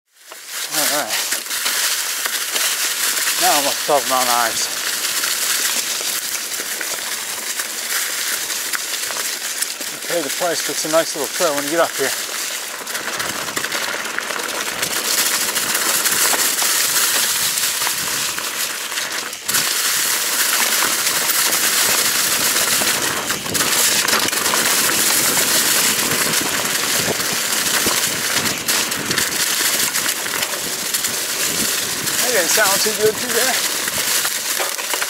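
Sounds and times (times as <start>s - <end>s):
bike tyres crunching dry leaves: 0.1s - 35.0s.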